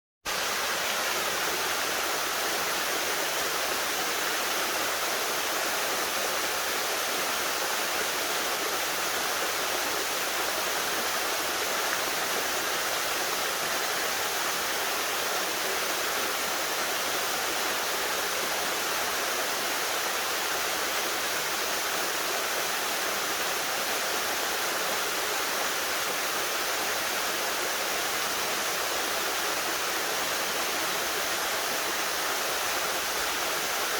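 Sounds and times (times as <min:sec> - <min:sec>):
small waterfall rushing: 0:00.3 - 0:33.9.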